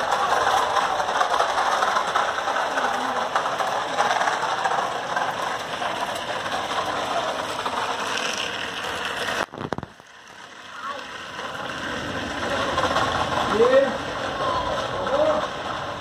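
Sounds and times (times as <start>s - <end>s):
toy truck rattling on concrete: 0.0s - 16.0s.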